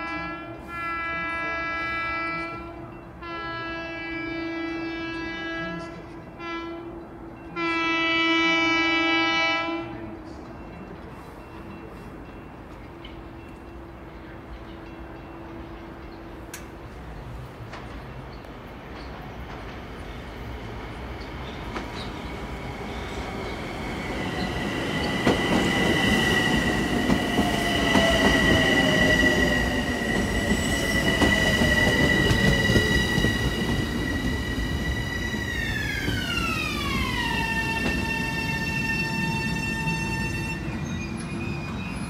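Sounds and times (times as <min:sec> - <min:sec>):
electric train rumble: 0:00.0 - 0:42.0
train high whine: 0:00.0 - 0:42.0.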